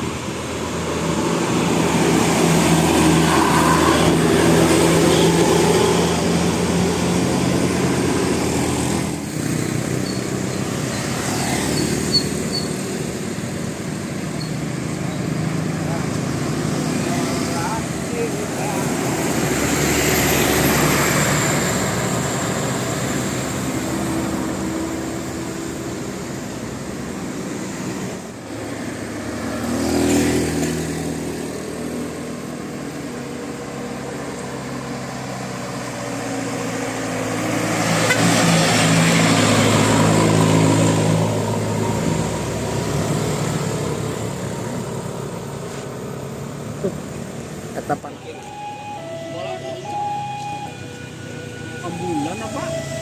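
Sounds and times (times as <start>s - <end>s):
vehicles passing by: 0.0s - 53.0s.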